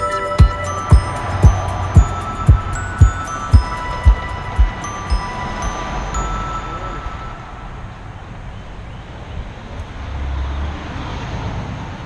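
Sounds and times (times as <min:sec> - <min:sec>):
road traffic passing: 0:00.0 - 0:12.0
van passing close: 0:00.0 - 0:12.0.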